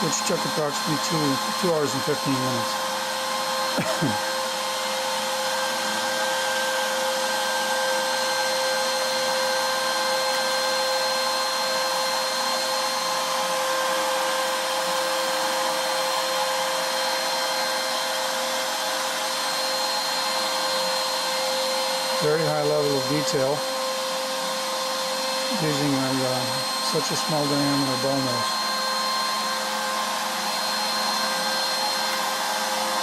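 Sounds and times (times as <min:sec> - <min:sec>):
cnc router spindle carving wood: 0:00.0 - 0:33.0.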